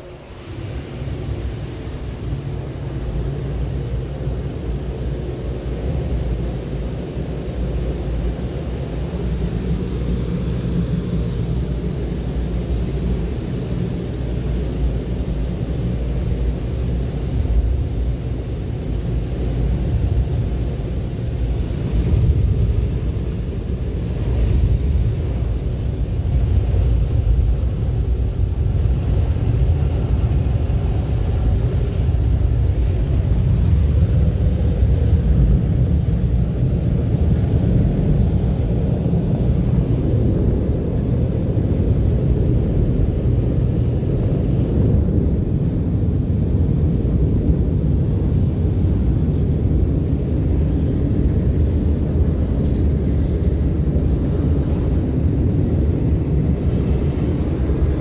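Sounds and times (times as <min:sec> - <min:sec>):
muffled car wash rumble: 0:00.0 - 0:58.0.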